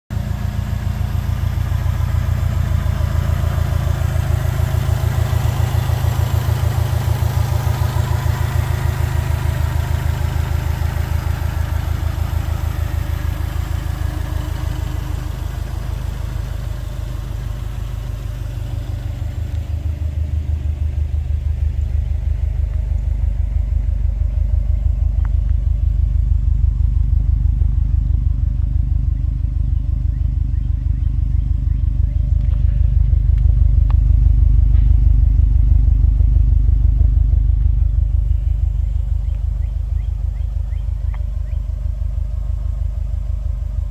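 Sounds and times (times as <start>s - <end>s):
car engine idling: 0.0s - 43.9s
deep exhaust note: 0.1s - 43.9s.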